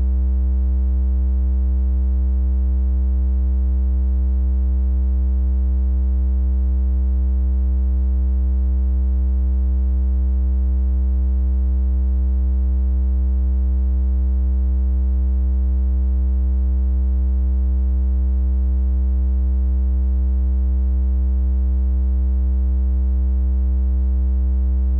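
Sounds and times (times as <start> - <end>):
synthesized low triangle-wave tone: 0.0 - 24.9.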